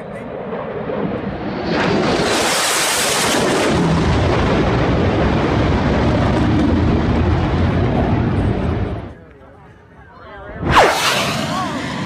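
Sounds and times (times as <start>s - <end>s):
fighter jet flying past: 0.0s - 9.2s, 10.5s - 12.0s.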